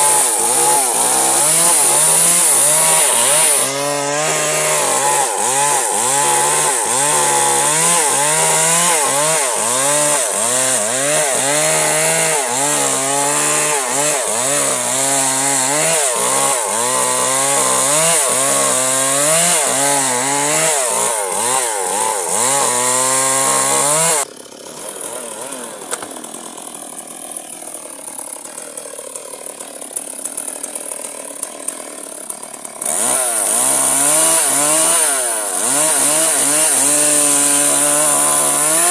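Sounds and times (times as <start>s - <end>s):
electric chainsaw cutting wood: 0.0s - 38.9s.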